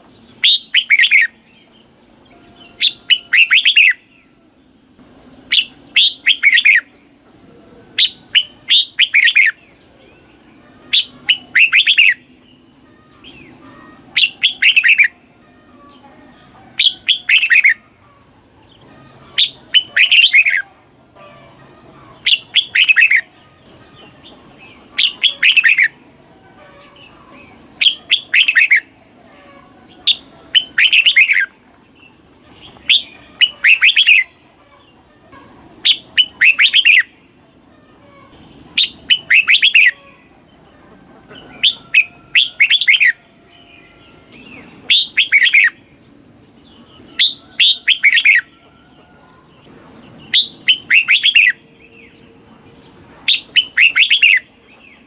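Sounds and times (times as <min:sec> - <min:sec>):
bird singing falling phrases: 0:00.0 - 0:40.7, 0:41.3 - 0:55.0.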